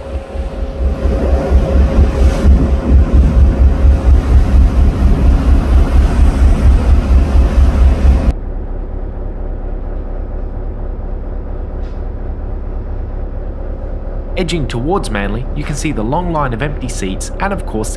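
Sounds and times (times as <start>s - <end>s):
ferry rumble: 0.0s - 17.9s
low engine hum: 0.0s - 17.9s.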